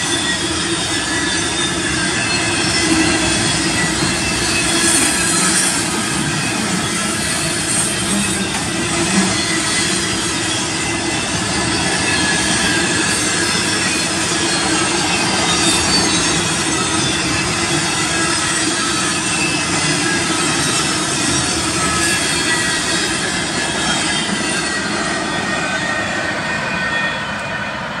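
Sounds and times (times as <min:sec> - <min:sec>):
freight train wheels rumbling: 0:00.0 - 0:28.0
high wheel squeal: 0:00.0 - 0:28.0.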